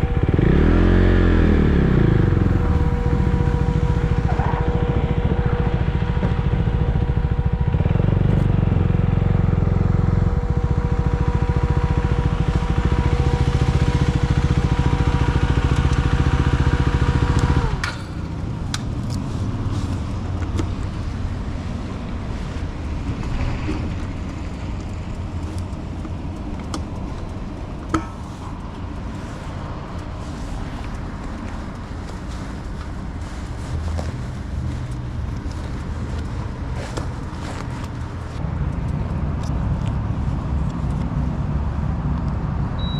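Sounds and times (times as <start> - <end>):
motorcycle engine whining: 0.0 - 38.4
outdoor background: 0.0 - 42.9.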